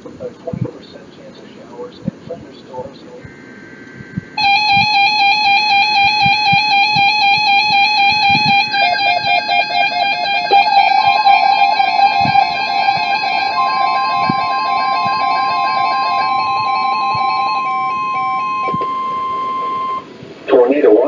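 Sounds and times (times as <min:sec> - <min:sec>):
steady high alarm tone: 0:03.2 - 0:20.2
warbling alarm tones: 0:03.2 - 0:20.2.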